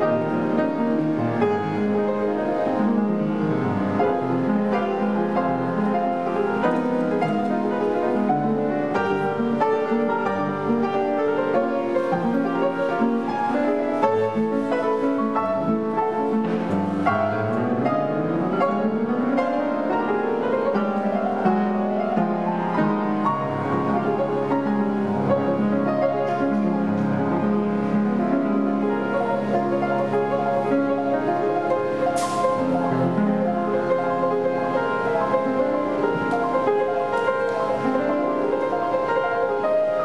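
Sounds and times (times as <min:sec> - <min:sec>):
piano-led instrumental music: 0:00.0 - 0:40.0.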